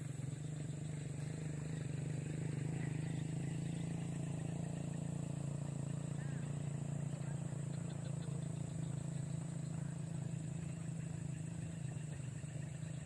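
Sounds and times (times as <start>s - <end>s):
low motor drone: 0.0s - 13.0s.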